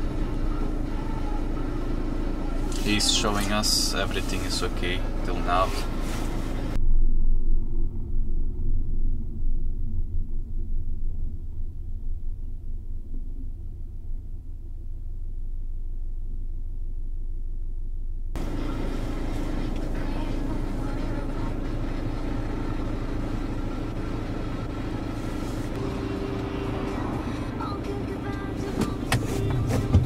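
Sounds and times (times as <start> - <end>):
diesel engine rumble in cabin: 0.0 - 30.0.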